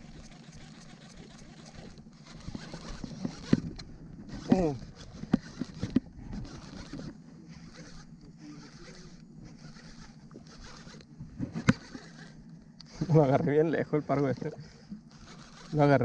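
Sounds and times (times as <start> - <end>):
fishing reel whirring: 0.0 - 16.0
reel clicks: 0.0 - 16.0.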